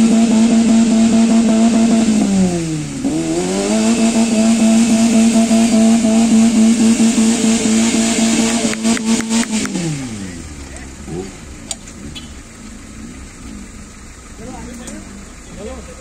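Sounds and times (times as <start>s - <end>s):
engine at high revs: 0.0s - 16.0s
vehicle churning through mud: 0.0s - 16.0s.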